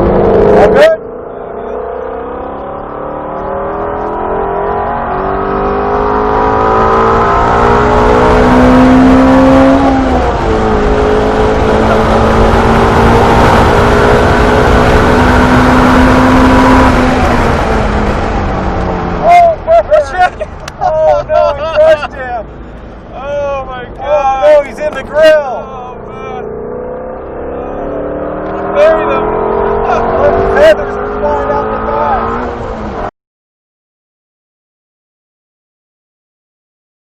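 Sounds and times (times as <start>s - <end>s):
car engine accelerating hard: 0.0s - 33.1s.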